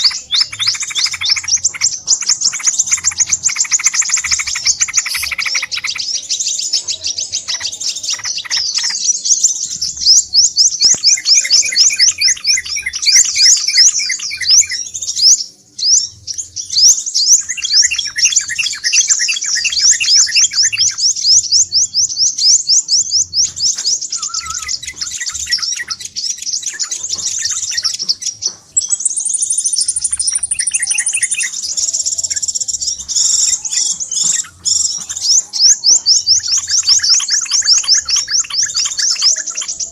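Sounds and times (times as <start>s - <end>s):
high sweeping bird chattering: 0.0s - 39.9s
lower repeated bird trill: 0.0s - 39.9s.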